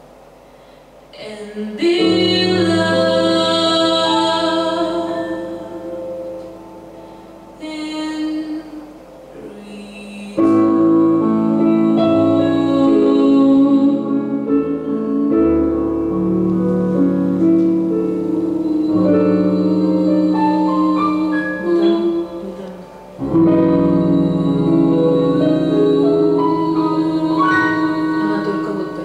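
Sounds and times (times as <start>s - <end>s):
slow jazz piano chords: 1.6s - 29.0s.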